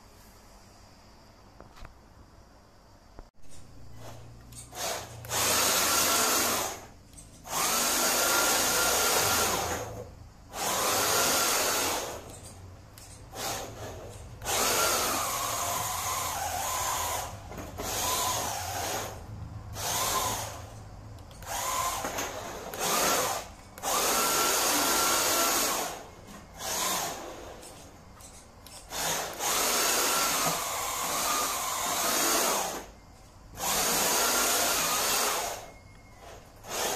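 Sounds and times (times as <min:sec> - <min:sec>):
rc car electric motor whining: 0:04.0 - 0:12.3, 0:13.3 - 0:27.7, 0:28.9 - 0:36.9.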